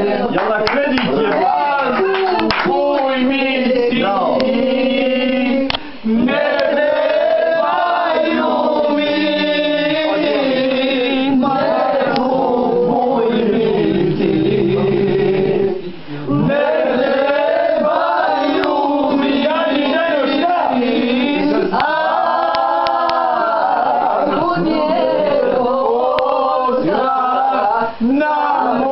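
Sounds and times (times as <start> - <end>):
men singing in unison: 0.0 - 28.9.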